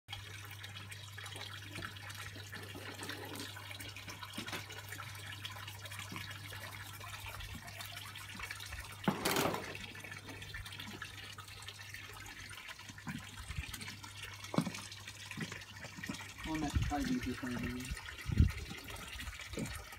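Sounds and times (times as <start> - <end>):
fountain water trickling and splashing: 0.1 - 19.9.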